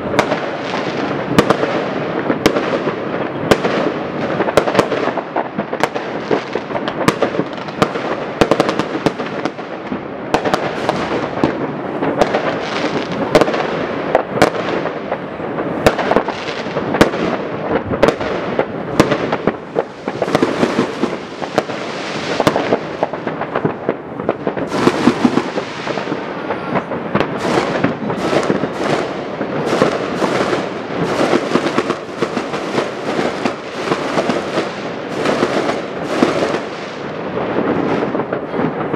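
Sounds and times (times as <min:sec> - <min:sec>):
fireworks and firecrackers crackling: 0:00.0 - 0:38.9.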